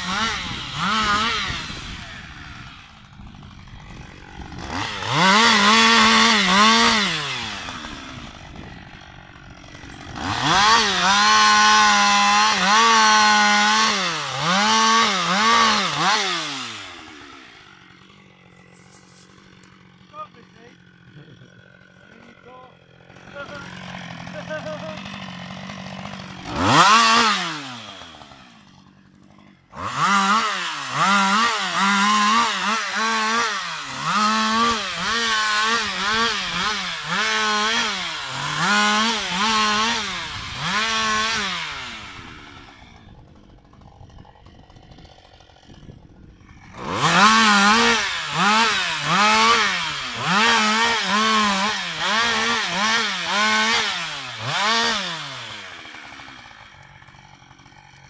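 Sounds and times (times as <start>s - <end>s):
chainsaw idling: 0.0s - 58.0s
chainsaw revving in bursts: 0.0s - 58.0s.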